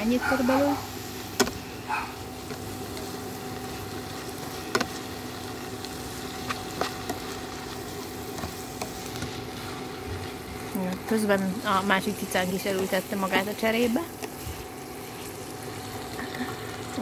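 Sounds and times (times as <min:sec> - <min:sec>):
leaves sizzling in a pan: 0:00.0 - 0:17.0.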